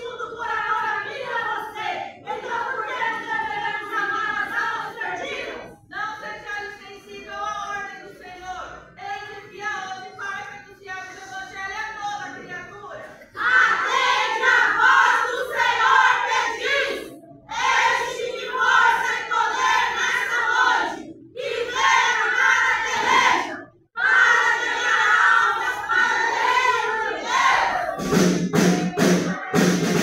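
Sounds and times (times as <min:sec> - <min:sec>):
women reciting in unison: 0:00.0 - 0:30.0.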